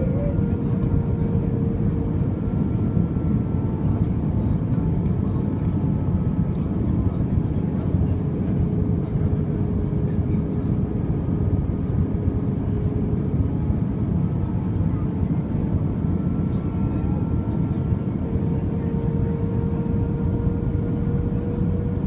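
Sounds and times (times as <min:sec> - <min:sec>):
airflow rush in aircraft cabin: 0:00.0 - 0:22.0.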